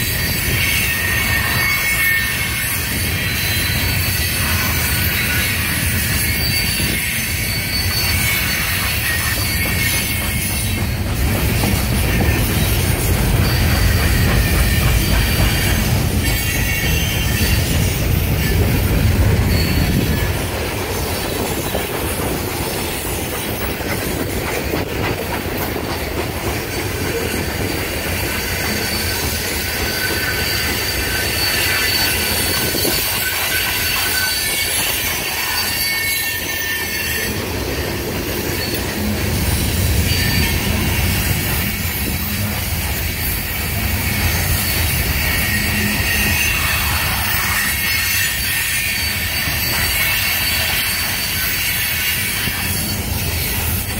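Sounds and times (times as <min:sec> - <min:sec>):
high wheel squeal: 0:00.0 - 0:53.9
train wheels rumbling on track: 0:00.0 - 0:53.9.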